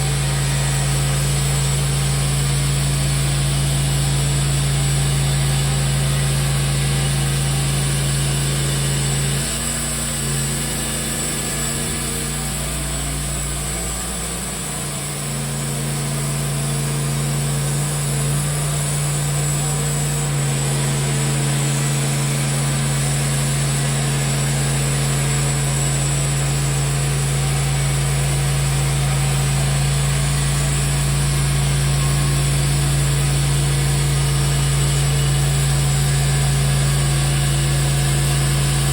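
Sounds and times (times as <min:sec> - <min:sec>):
sawmill engine humming: 0:00.0 - 0:38.9.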